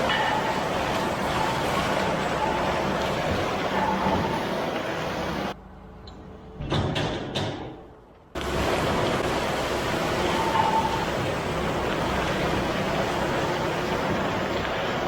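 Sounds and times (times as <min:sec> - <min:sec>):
farm machinery running: 0:00.0 - 0:05.6, 0:08.4 - 0:15.0.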